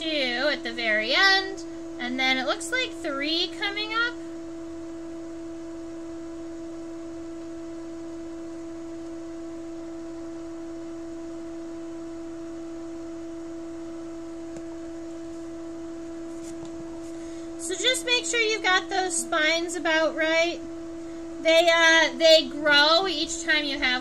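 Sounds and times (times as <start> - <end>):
steady pure tone: 0.0 - 24.0.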